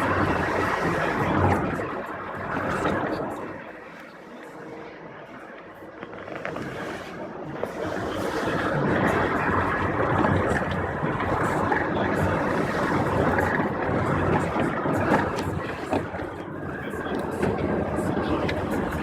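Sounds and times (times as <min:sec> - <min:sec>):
motor vehicle noise: 0:00.0 - 0:19.0.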